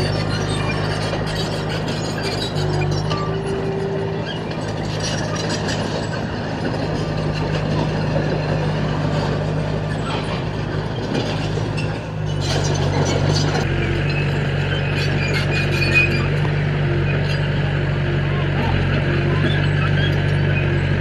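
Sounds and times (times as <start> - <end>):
rattling and scraping: 0.0 - 17.6
diesel engine running under load: 0.0 - 21.0.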